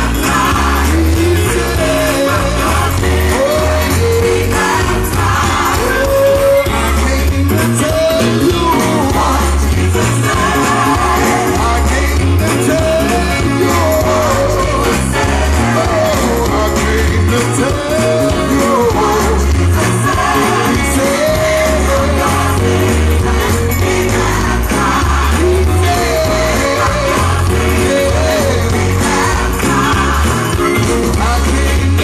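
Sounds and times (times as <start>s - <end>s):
gospel song playing: 0.0s - 32.0s.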